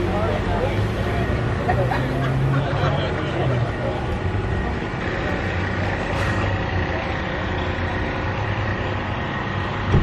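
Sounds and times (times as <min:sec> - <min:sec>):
vehicle engines idling: 0:00.0 - 0:10.0.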